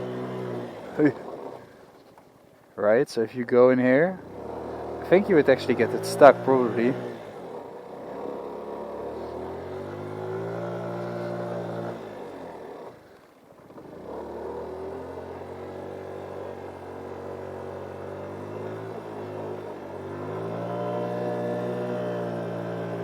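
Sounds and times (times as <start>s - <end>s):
scooter engine revving: 0.0s - 2.0s, 4.0s - 23.0s.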